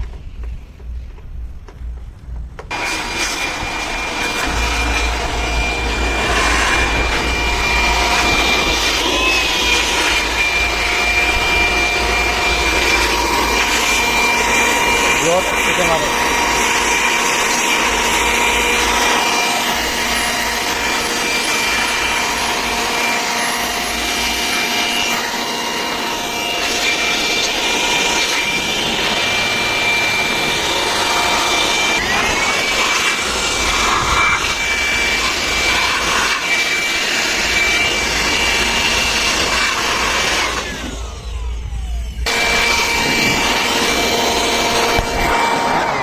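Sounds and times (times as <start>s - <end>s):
pressure washer pump whining: 2.4s - 46.0s.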